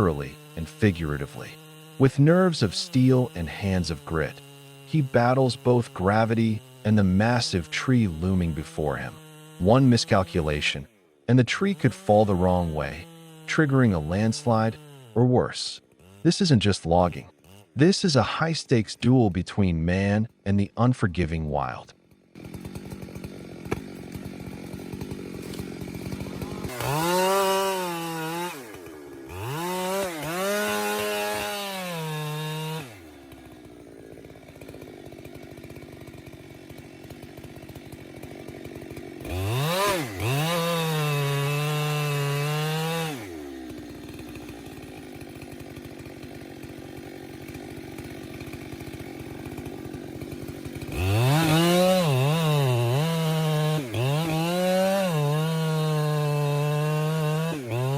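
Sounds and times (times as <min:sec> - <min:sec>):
chainsaw idling and revving: 0:00.0 - 0:57.9.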